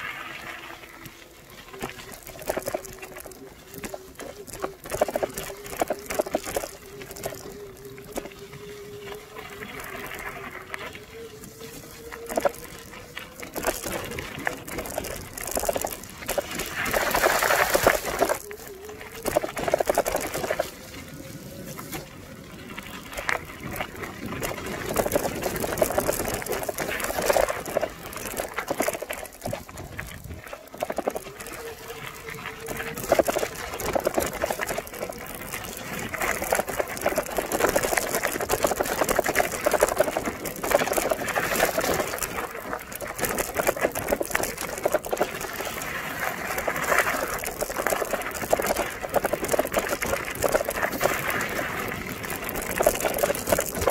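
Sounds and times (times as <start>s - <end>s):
bicycle tyres crunching gravel: 0.0s - 53.9s
bike rattling: 0.0s - 53.9s
water splashing: 0.0s - 53.9s.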